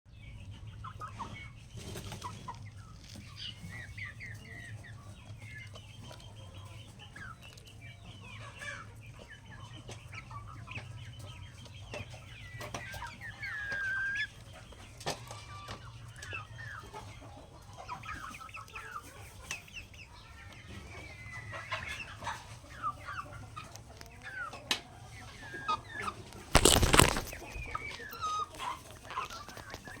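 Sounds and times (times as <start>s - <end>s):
chicks peeping: 0.1s - 30.0s
hens clucking: 0.1s - 30.0s.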